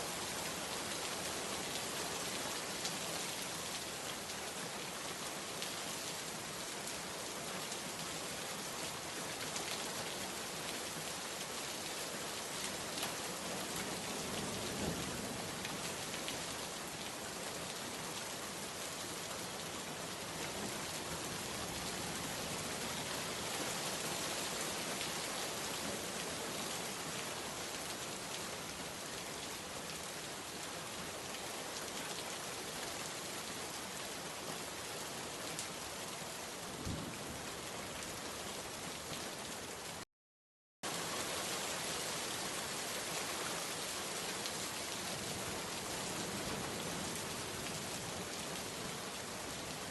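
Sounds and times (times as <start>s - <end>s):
heavy rain falling: 0.0s - 40.0s, 40.8s - 49.9s.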